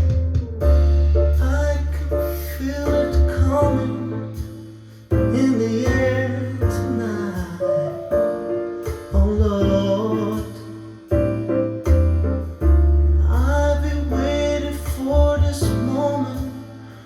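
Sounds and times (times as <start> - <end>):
song with heavy bass: 0.0 - 17.0.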